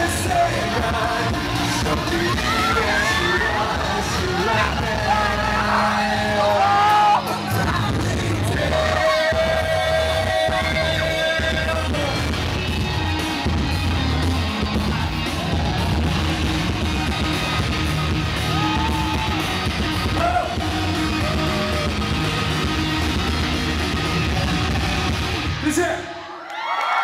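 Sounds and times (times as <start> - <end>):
live rock band: 0.0 - 26.0
audience screaming and cheering: 0.0 - 27.0.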